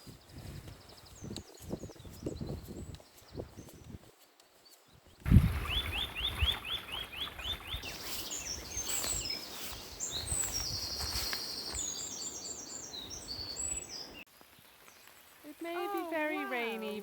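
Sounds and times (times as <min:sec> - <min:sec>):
woodland birds singing: 0:00.0 - 0:17.0.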